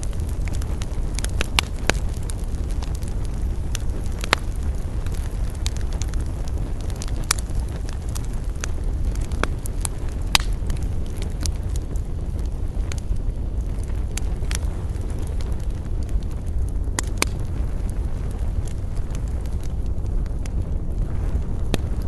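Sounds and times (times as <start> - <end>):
burning wood crackling and popping: 0.0 - 22.0
campfire rumble: 0.0 - 22.0.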